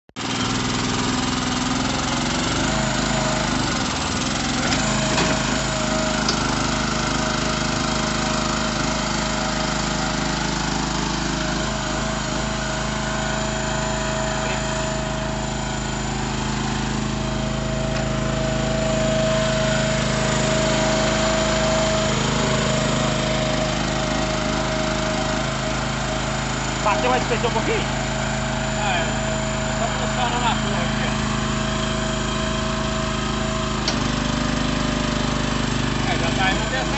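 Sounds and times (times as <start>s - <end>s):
small engine running: 0.2s - 36.9s.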